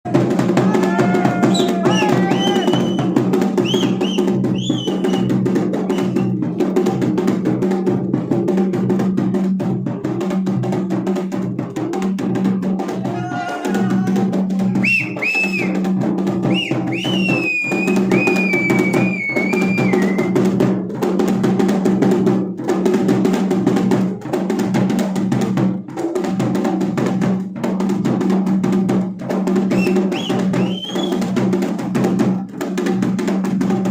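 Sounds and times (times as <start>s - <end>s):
fast folk drumming: 0.0s - 33.9s.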